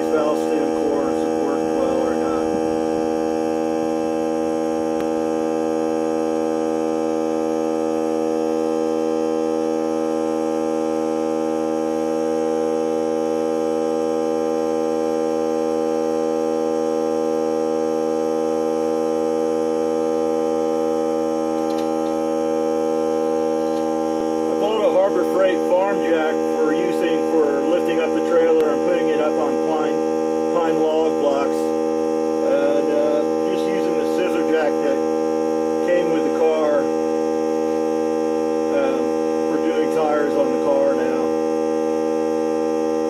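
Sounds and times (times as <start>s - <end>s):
air compressor humming: 0.0s - 43.0s.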